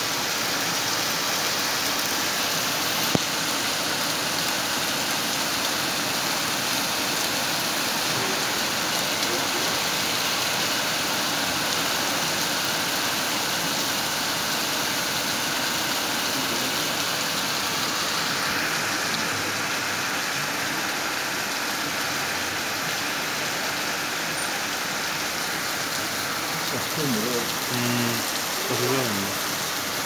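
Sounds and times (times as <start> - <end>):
hail and heavy rain: 0.0 - 30.0.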